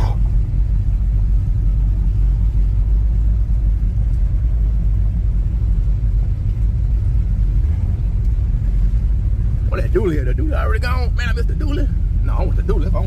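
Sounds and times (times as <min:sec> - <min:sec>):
road noise: 0:00.0 - 0:13.0
truck engine rumbling: 0:00.0 - 0:13.0.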